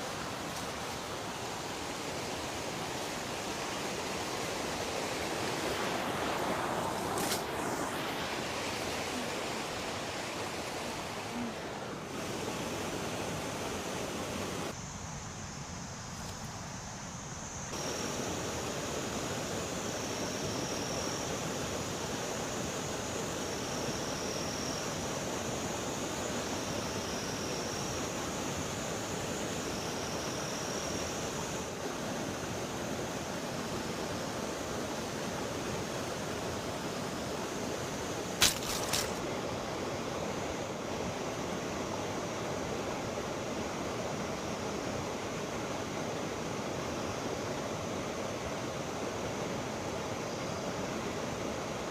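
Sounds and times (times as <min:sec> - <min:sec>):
river water flowing: 0:00.0 - 0:14.8, 0:17.7 - 0:51.9.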